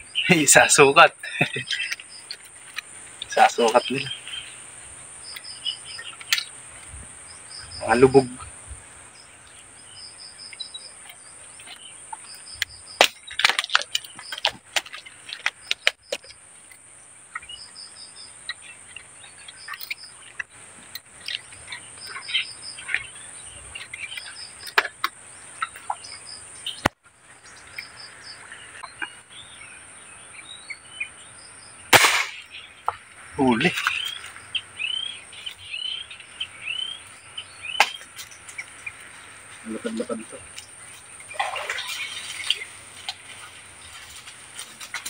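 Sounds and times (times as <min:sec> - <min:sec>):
insect drone: 0:00.0 - 0:45.0.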